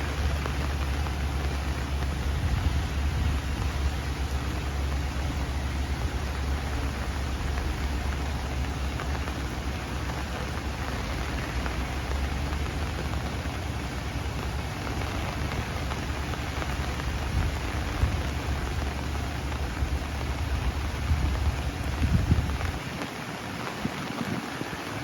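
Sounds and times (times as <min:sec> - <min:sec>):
rain falling on trees: 0:00.0 - 0:25.0.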